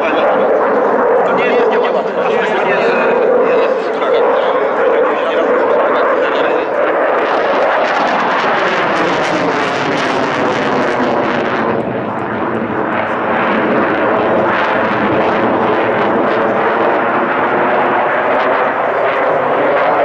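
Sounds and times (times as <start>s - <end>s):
aircraft engine in flight: 0.0s - 20.0s.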